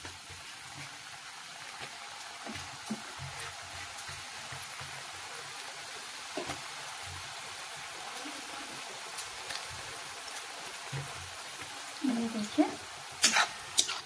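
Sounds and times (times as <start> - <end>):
dough sizzling in hot oil: 0.0 - 14.0.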